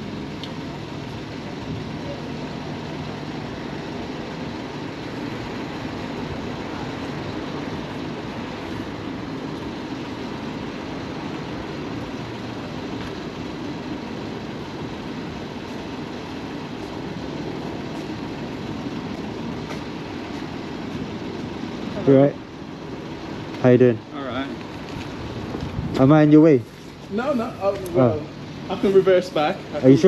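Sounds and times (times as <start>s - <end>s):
low street noise rumble: 0.0s - 30.0s.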